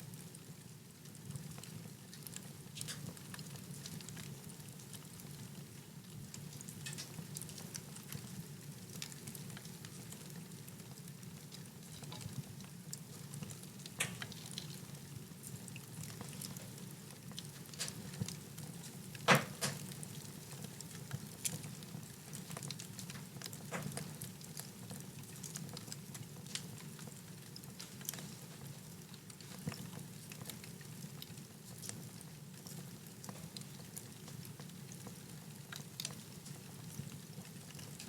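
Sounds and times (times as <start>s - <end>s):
wood fire crackling: 0.1s - 38.0s.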